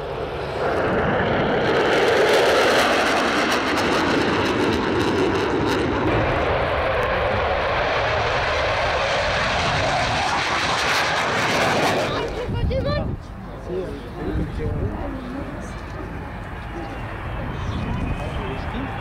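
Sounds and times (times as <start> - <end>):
jet engines roaring past: 0.0 - 19.0.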